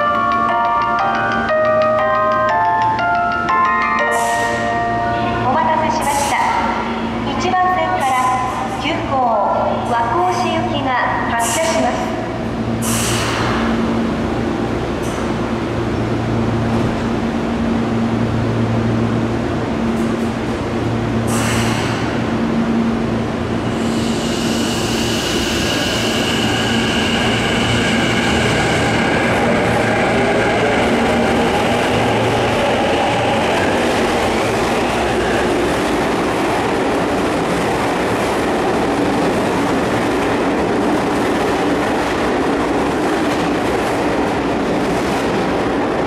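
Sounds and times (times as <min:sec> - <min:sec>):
train wheels rumbling on rails: 0:05.3 - 0:46.0.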